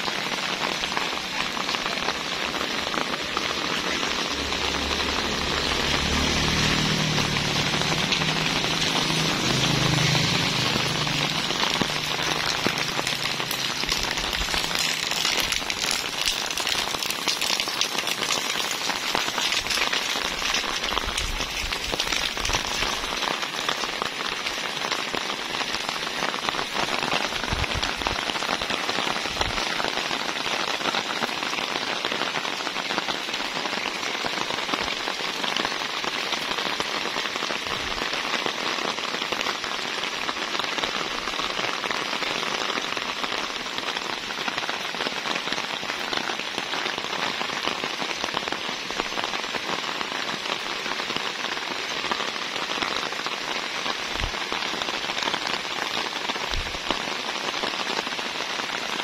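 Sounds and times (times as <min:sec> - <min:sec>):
steady rain on vegetation: 0:00.0 - 0:59.0.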